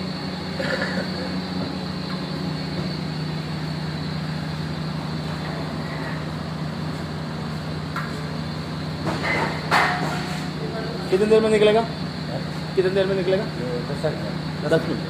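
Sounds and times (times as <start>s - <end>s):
steam boiler humming: 0.0s - 15.0s.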